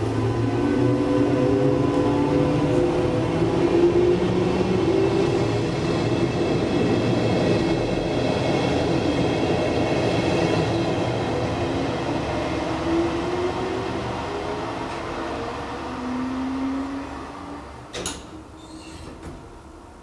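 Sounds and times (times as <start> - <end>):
train wheels rumbling on rail: 0.0 - 16.7.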